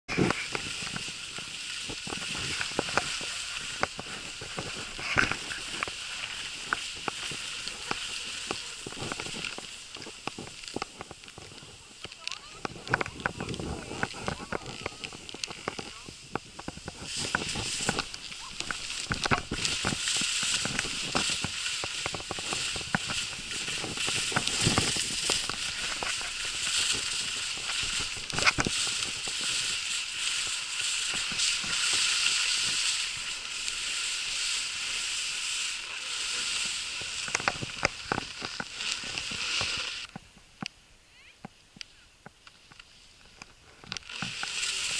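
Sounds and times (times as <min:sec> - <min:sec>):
skis hissing over snow: 0:00.1 - 0:40.1, 0:42.8 - 0:44.9
clicks and knocks from skis: 0:00.1 - 0:40.8, 0:41.4 - 0:44.9.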